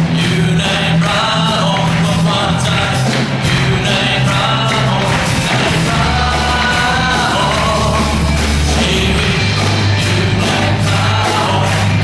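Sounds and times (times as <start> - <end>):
band playing: 0.0 - 12.0
bass notes: 0.0 - 12.0
person singing into microphone: 0.0 - 12.0.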